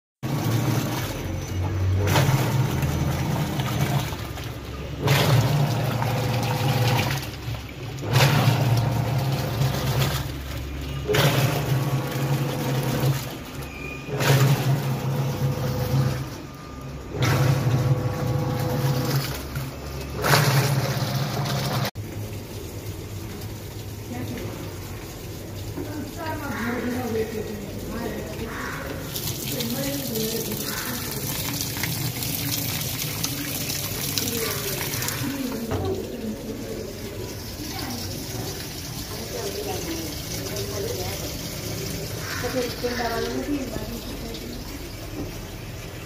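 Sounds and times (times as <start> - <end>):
washing machine churning water: 0.2 - 46.0.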